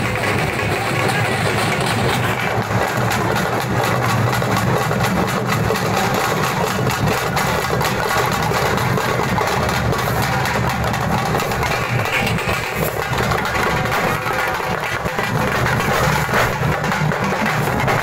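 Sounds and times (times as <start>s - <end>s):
drummers beating drums: 0.0s - 18.0s.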